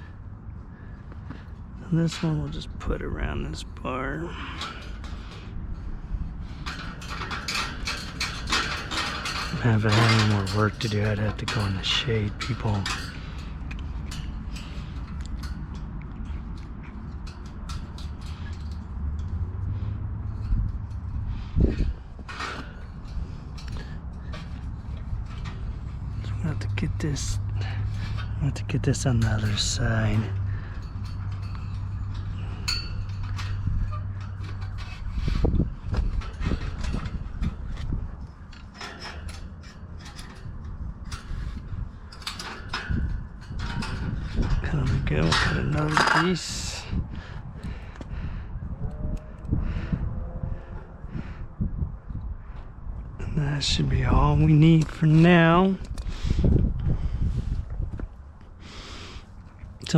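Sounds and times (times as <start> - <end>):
wire clicking and scraping on metal: 0.0 - 51.0, 52.1 - 59.9
steady low rumble: 0.0 - 59.9.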